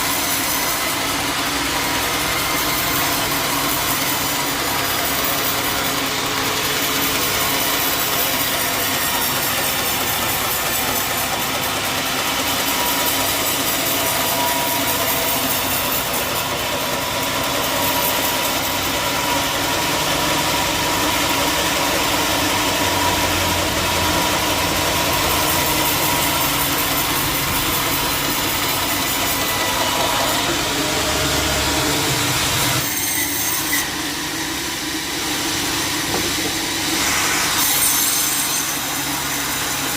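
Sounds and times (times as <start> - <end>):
bandsaw sawmill droning: 0.0 - 39.9.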